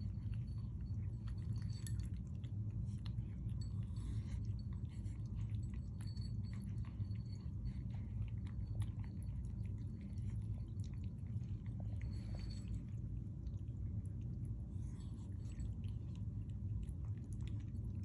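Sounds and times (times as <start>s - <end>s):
cats chewing wet food: 0.0s - 18.0s
low steady hum: 0.0s - 18.0s.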